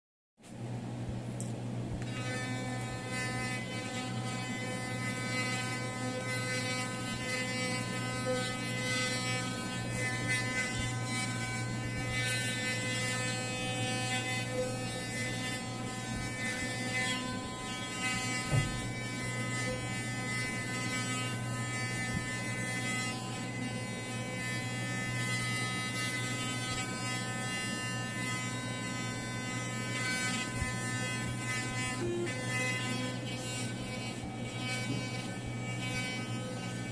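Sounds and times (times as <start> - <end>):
electric toothbrush buzzing: 1.9 - 36.9.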